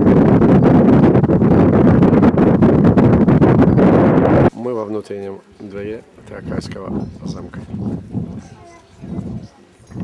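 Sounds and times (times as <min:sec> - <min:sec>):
wind buffeting microphone: 0:00.0 - 0:04.5, 0:05.8 - 0:10.0.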